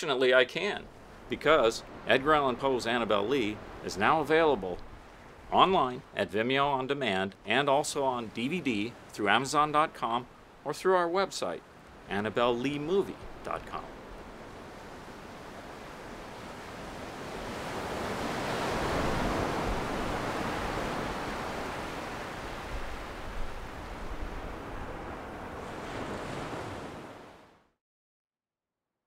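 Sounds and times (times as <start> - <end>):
ocean surf washing in: 0.0 - 27.6.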